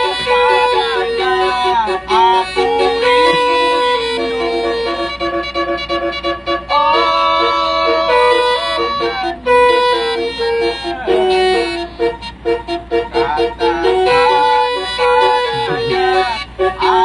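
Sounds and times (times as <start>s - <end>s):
melodic bus horn playing a tune: 0.0s - 17.0s.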